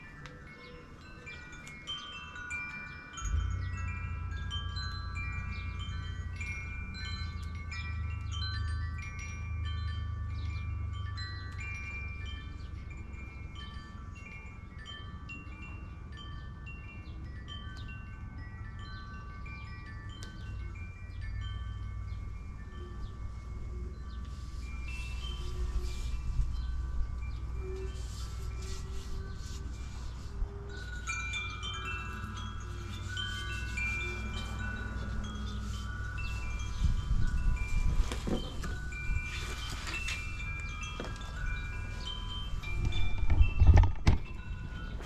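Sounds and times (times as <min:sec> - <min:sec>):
metal wind chimes ringing: 0:00.0 - 0:45.0.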